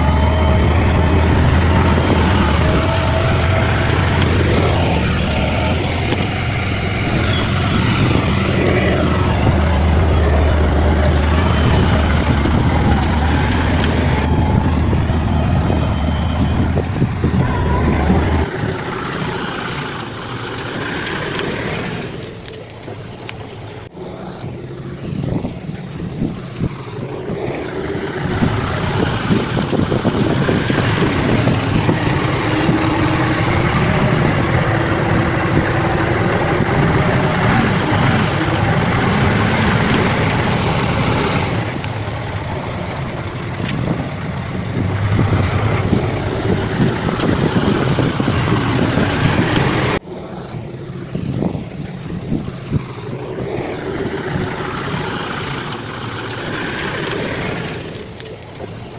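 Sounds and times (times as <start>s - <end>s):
bulldozer diesel engine under load: 0.0s - 58.9s.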